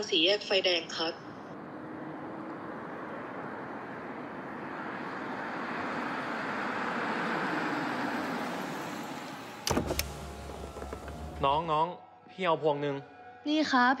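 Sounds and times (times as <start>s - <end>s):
road noise from passing cars: 0.1s - 11.9s.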